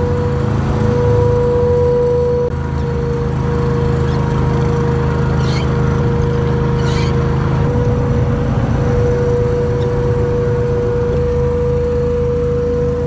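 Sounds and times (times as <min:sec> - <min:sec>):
hovercraft engine drone: 0:00.0 - 0:13.0.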